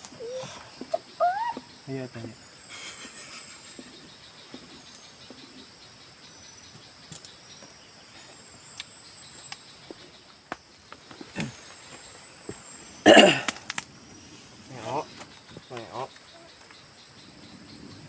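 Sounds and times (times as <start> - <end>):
insects chorus: 0.0 - 18.0.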